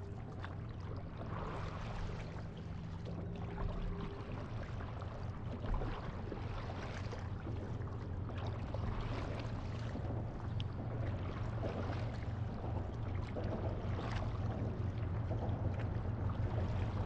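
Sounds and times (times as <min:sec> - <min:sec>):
low wind rumble: 0:00.0 - 0:17.0
seawater splashing and lapping: 0:00.0 - 0:17.0.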